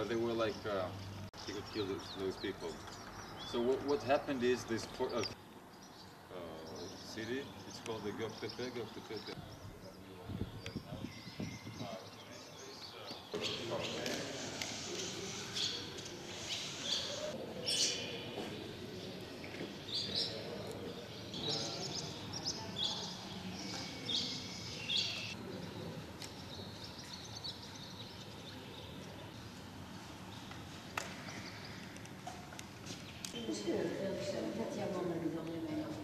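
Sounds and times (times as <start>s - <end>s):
outdoor background noise: 0.0s - 36.0s
small birds chirping: 0.0s - 36.0s.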